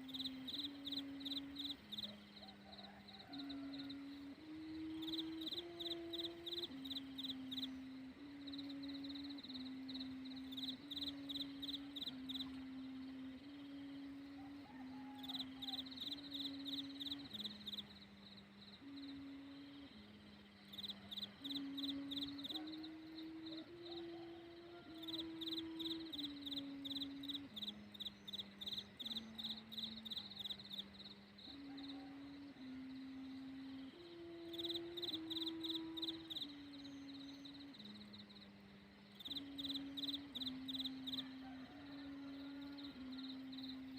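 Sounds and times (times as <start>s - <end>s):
kite hummer droning: 0.0s - 43.9s.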